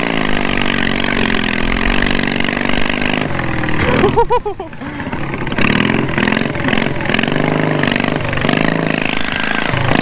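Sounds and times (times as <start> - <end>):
lawn mower engine revving: 0.0 - 10.0.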